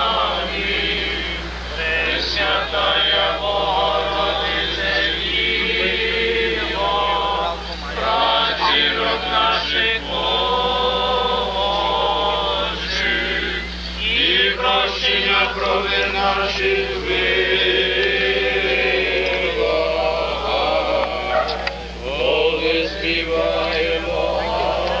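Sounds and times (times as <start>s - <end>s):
choir singing chant: 0.0s - 25.0s
steady low hum: 0.0s - 25.0s.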